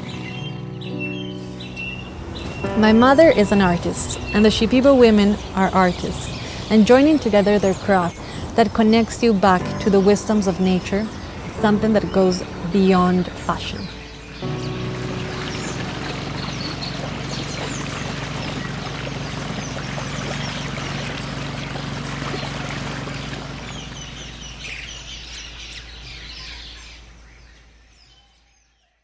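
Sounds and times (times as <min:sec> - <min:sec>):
low hum: 0:00.0 - 0:26.0
birds chirping: 0:00.0 - 0:29.0.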